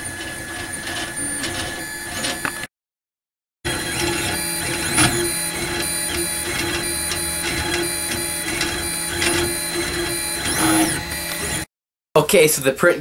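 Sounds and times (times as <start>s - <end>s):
printer stepper motors whining: 0.0s - 2.7s, 3.7s - 11.7s.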